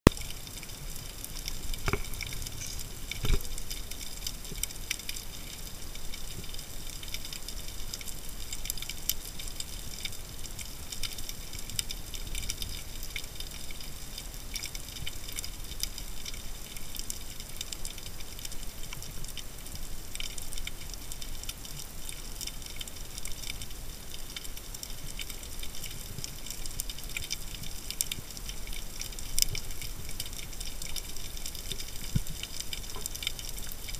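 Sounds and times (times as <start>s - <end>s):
underwater crackle of fine clicks: 0.1s - 33.9s.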